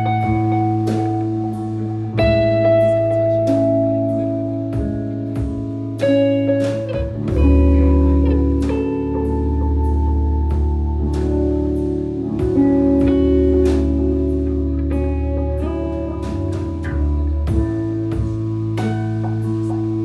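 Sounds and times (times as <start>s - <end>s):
deep bass note: 0.0s - 20.0s
rock band playing: 0.0s - 20.0s.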